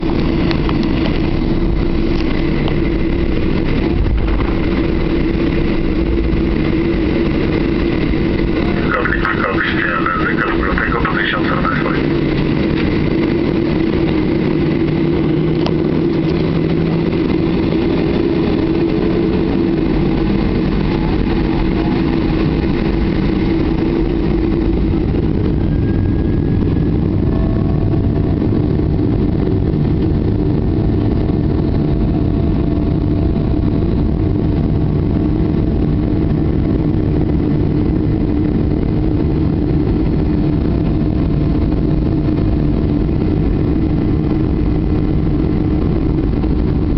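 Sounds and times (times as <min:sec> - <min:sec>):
higher engine tone: 0:00.0 - 0:46.9
jet engines running: 0:00.0 - 0:46.9.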